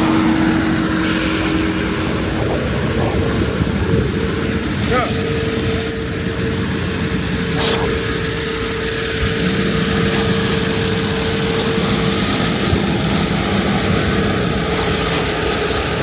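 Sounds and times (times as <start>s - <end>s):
combine harvester engine running: 0.0s - 16.0s
steady whine: 0.0s - 16.0s.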